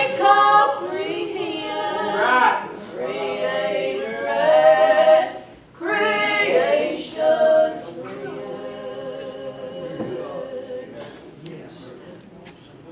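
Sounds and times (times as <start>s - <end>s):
women singing in harmony: 0.0s - 11.2s.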